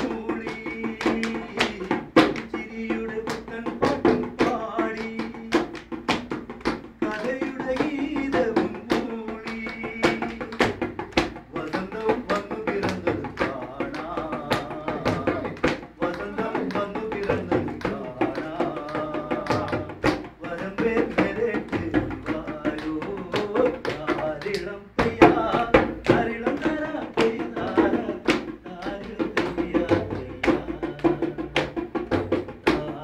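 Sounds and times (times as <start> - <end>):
people singing together: 0.0 - 6.0, 7.0 - 10.8, 11.4 - 33.0
hand claps: 0.0 - 33.0
hand drum beating: 0.0 - 33.0.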